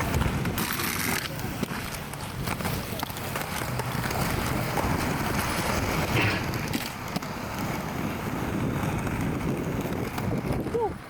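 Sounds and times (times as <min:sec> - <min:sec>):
skateboard wheels rolling: 0:00.0 - 0:11.0.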